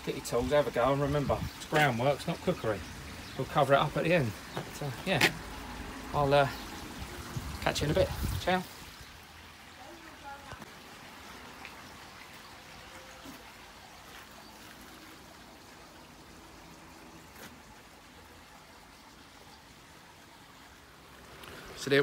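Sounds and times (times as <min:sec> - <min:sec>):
faint outdoor background hiss: 0:00.0 - 0:22.0.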